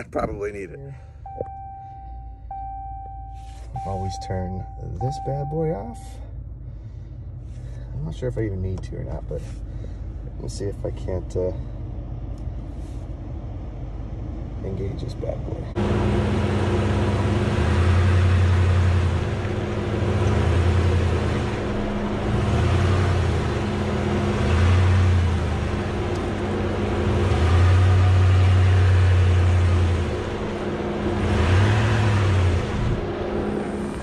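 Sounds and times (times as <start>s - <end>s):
truck engine rumbling: 0.0s - 34.0s.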